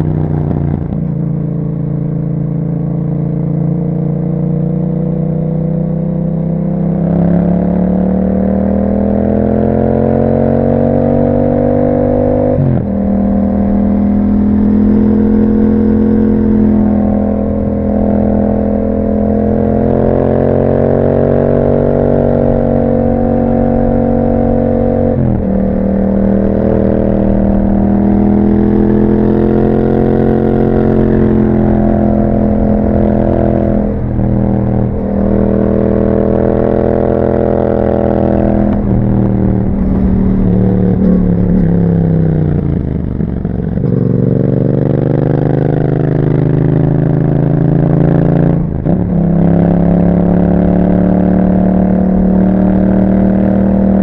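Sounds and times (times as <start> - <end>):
motorcycle engine with gear changes: 0.0 - 54.0.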